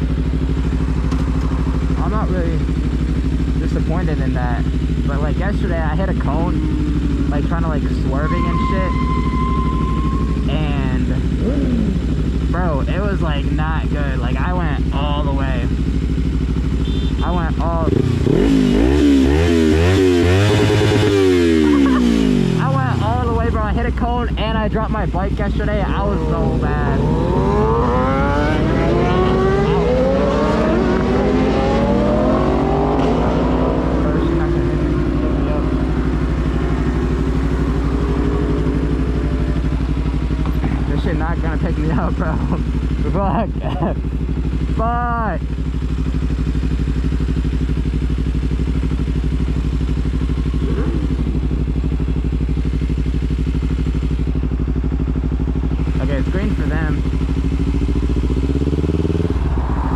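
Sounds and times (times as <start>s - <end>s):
low rumble: 0.0s - 59.9s
motorcycle engine accelerating: 0.0s - 59.9s.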